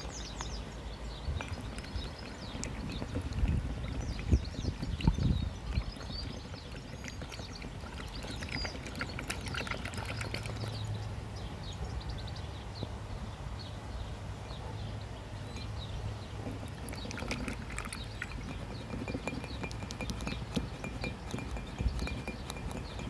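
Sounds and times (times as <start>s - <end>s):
swan slurping and splashing: 0.0s - 11.4s, 15.2s - 23.0s.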